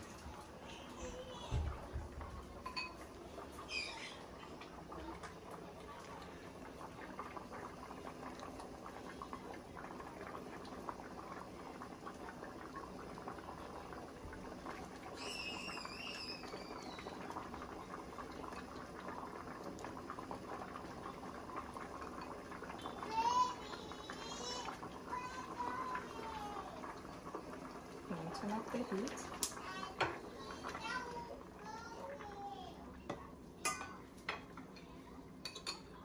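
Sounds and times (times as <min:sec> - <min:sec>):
soup bubbling in a pot: 0:00.0 - 0:36.0.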